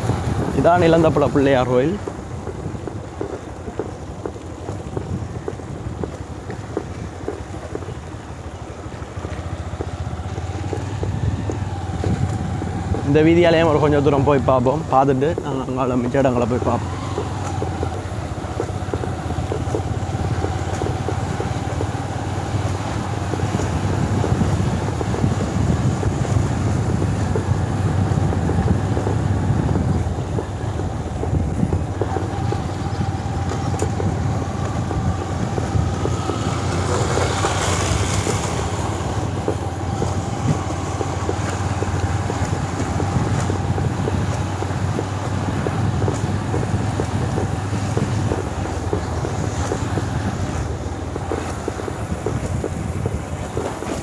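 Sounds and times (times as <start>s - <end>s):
motorcycle engine droning: 0.0s - 54.0s.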